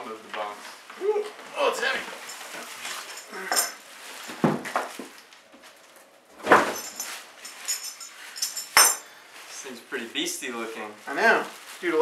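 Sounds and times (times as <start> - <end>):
plastic crinkling and rustling: 1.5 - 8.4, 9.3 - 12.0.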